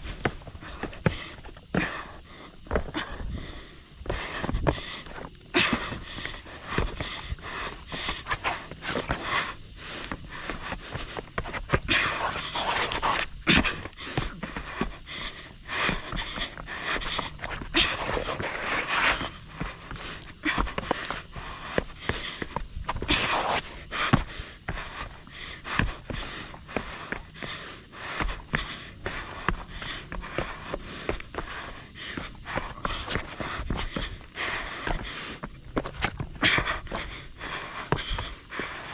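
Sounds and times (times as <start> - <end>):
shoes scuffing on rock: 0.0 - 2.0, 4.1 - 15.0, 15.8 - 38.9
runner panting heavily: 0.0 - 38.9.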